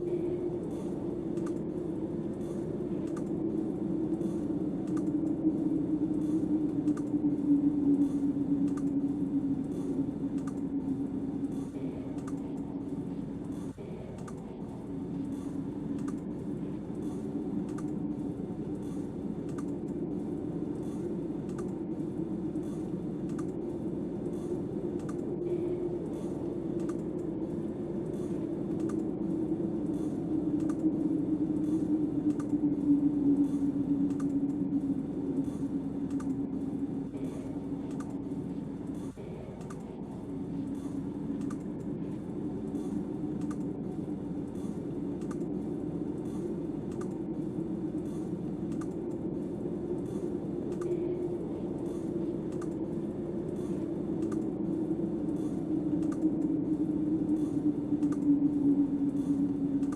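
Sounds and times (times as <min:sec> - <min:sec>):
storm wind drone: 0:00.0 - 0:59.9
faint ticks: 0:00.6 - 0:16.3, 0:16.9 - 0:38.3, 0:38.9 - 0:49.3, 0:49.9 - 0:59.9.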